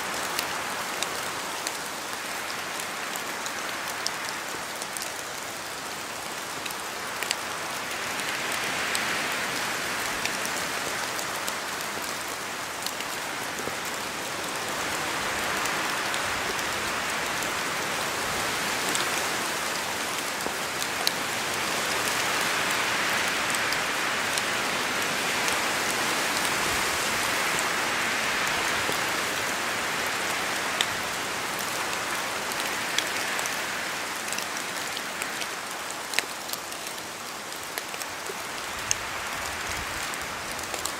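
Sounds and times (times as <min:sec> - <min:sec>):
rain pattering: 0:00.0 - 0:40.9
wind in trees: 0:00.0 - 0:40.9.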